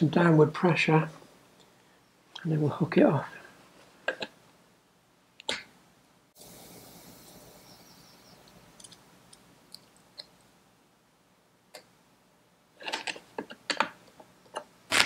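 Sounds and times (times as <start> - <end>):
soft hiss: 0.0 - 12.8.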